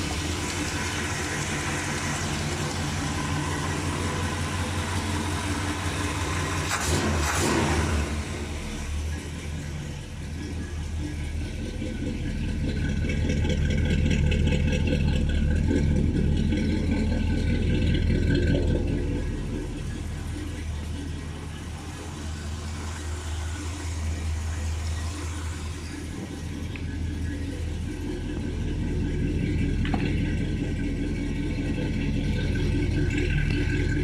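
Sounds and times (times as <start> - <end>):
v eight engine rumbling: 0.0 - 34.0.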